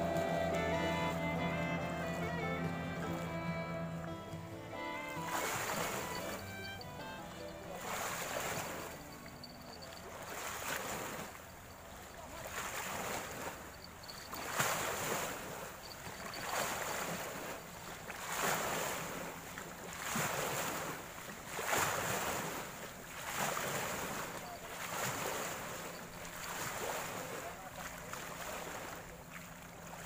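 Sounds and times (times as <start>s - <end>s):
river water rushing: 0.0s - 30.0s
wind: 0.0s - 30.0s.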